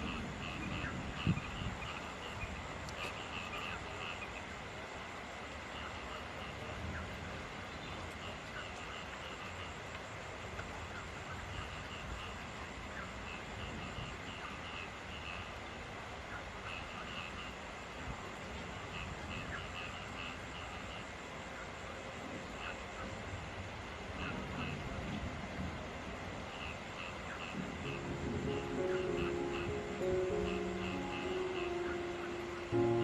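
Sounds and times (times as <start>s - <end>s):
frogs calling: 0.0s - 33.0s
steady rain: 0.0s - 33.0s.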